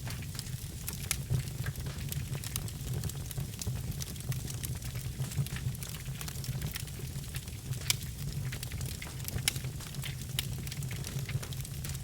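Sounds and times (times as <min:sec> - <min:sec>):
logs crackling and popping in fireplace: 0:00.0 - 0:12.0.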